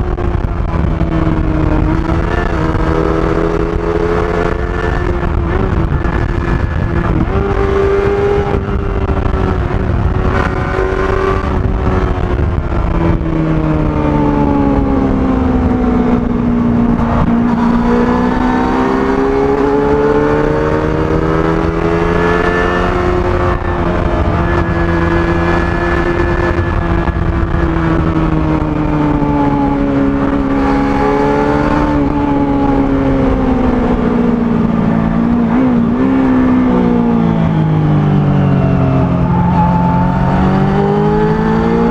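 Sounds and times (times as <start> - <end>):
motorcycle engine revving: 0.0 - 41.9
wind rumble on microphone: 0.0 - 41.9.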